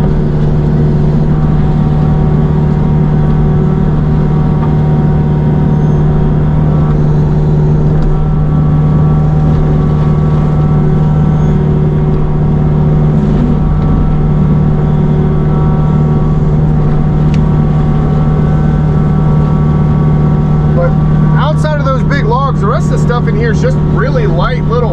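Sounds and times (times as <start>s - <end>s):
mulcher machine droning: 0.0s - 24.9s.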